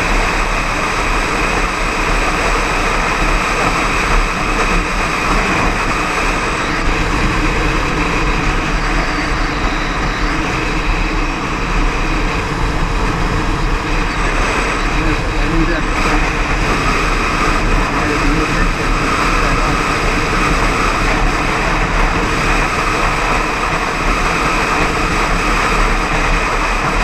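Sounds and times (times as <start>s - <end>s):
motorcycle engine running: 0.0s - 27.0s
wind rush over microphone: 0.0s - 27.0s.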